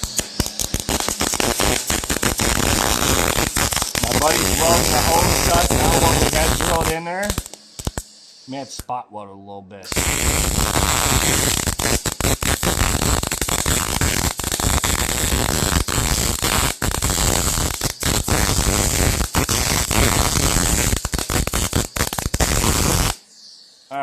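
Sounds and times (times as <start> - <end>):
welding arc crackling: 0.0 - 8.8, 9.9 - 23.2.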